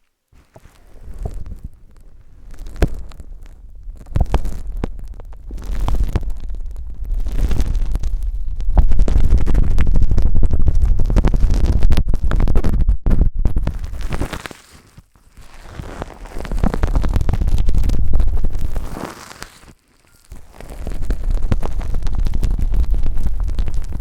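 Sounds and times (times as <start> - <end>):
hands rubbing a microphone: 0.4 - 24.0.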